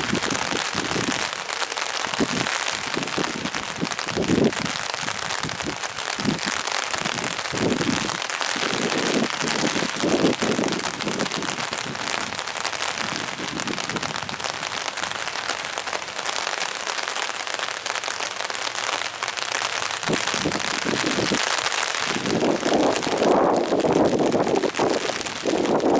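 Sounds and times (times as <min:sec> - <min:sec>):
wind rumbling on microphone: 0:00.0 - 0:15.8, 0:20.0 - 0:25.9
rain on hard surfaces: 0:00.0 - 0:25.9.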